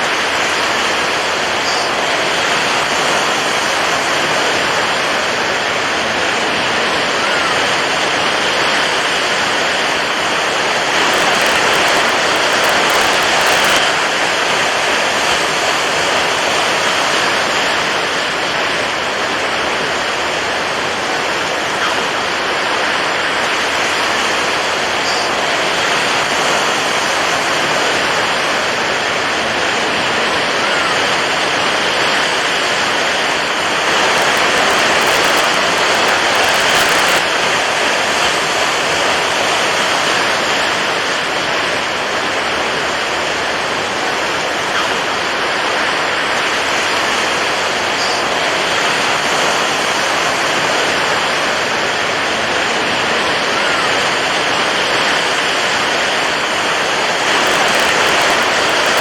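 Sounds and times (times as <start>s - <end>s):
water waves rushing: 0.0s - 59.0s.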